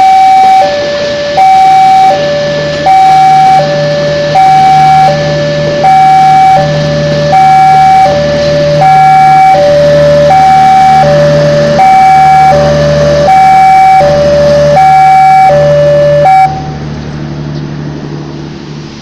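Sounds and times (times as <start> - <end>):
two-tone crossing alarm: 0.0 - 16.9
train rumbling past: 0.0 - 19.0.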